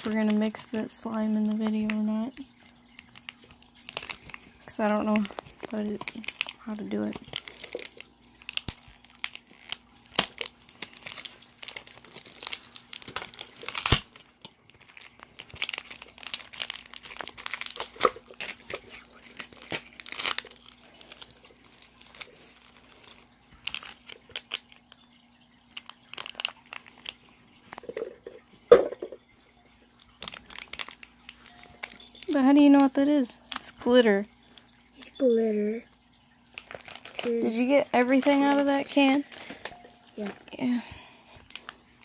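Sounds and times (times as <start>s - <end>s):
faint steady hum: 0.0s - 42.0s
plastic wrapping crinkling: 0.0s - 42.0s.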